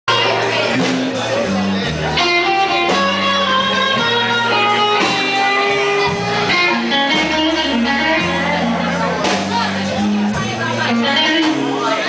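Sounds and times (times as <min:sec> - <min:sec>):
bass line: 0:00.1 - 0:12.0
electric guitar melody: 0:00.1 - 0:12.0
live blues band: 0:00.1 - 0:12.0.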